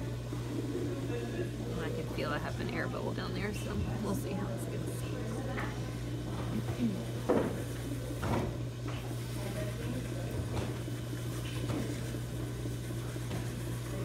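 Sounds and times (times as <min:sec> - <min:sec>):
pottery wheel motor hum: 0:00.0 - 0:14.0.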